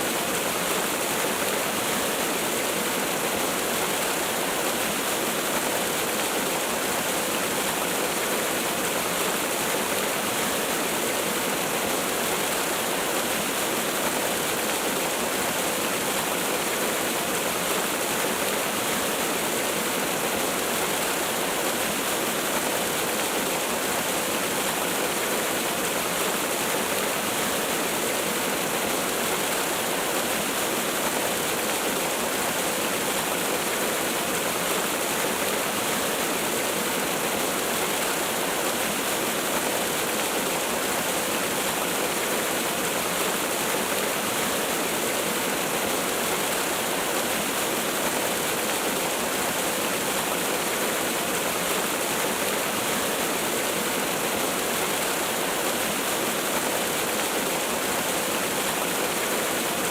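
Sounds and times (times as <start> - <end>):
waterfall rushing and splashing: 0.0 - 59.9.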